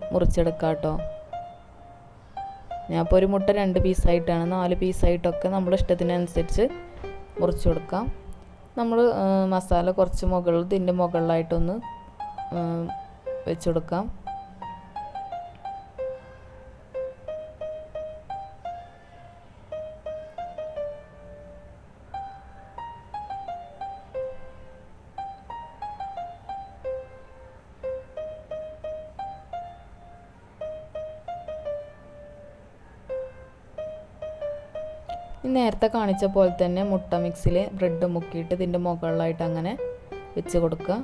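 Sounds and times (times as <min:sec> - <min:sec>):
light piano-like melody: 0:00.0 - 0:41.0.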